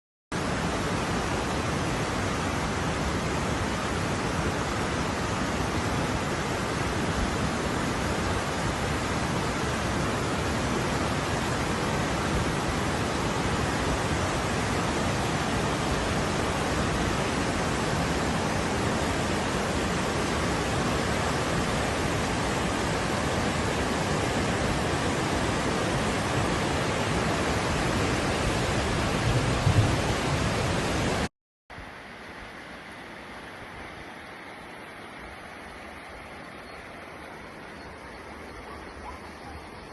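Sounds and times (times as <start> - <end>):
heavy rain: 0.3 - 38.4
wind: 0.3 - 39.9.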